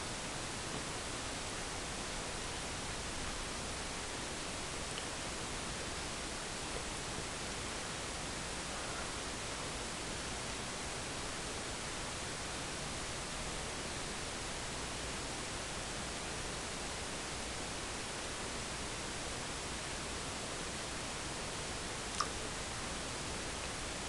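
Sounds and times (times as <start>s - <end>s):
recording hiss: 0.0s - 24.0s.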